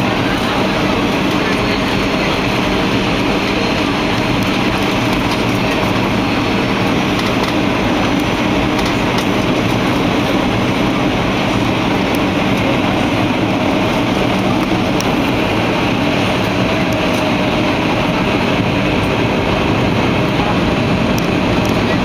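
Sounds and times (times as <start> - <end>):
airplane cabin engine noise: 0.0 - 22.0.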